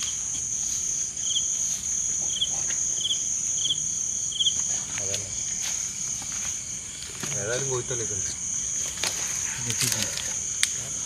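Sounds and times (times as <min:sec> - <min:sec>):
crickets trilling: 0:00.0 - 0:11.0
lower insect chirp: 0:00.0 - 0:11.0.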